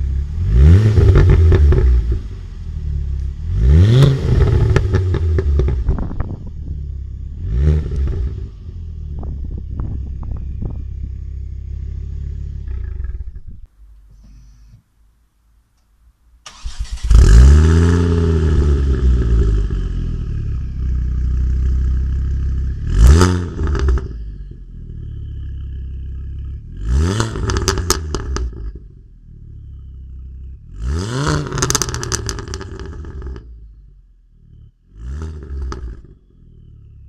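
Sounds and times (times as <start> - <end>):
engine revving: 0.0 - 13.7, 16.5 - 37.0
car engine starting and idling: 0.0 - 14.1, 16.4 - 37.0
exhaust crackles and pops: 0.0 - 14.1, 16.5 - 29.0, 29.6 - 33.6, 34.6 - 37.0.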